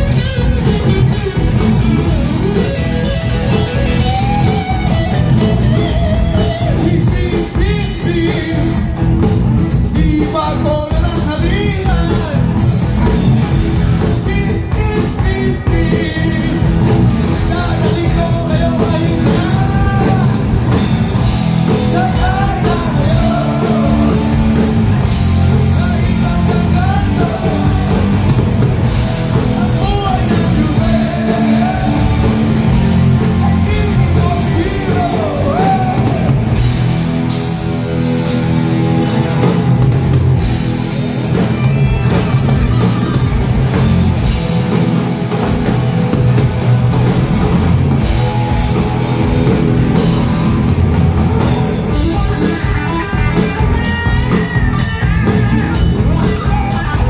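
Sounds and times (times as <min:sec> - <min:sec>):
rock band playing: 0:00.0 - 0:57.0
wavering lead guitar melody: 0:00.0 - 0:57.0.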